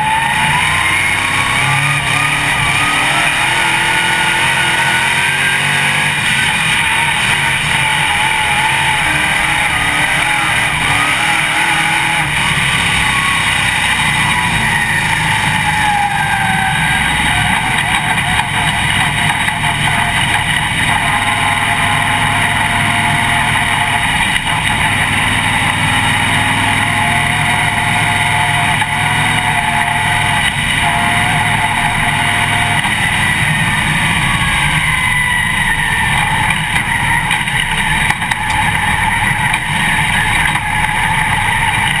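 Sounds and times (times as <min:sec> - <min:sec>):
race car engine running hard: 0:00.0 - 0:42.0.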